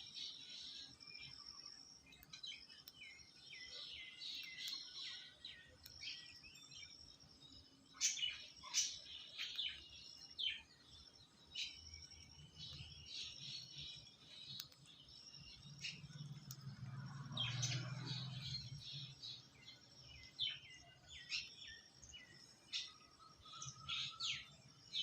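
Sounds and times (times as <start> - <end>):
birds chirping and trilling: 0.0 - 25.0.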